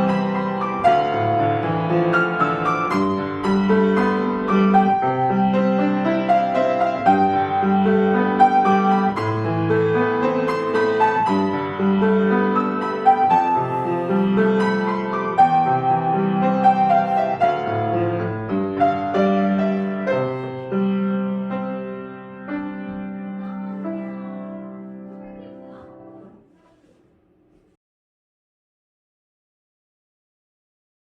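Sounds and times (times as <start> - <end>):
solo piano: 0.0 - 27.8.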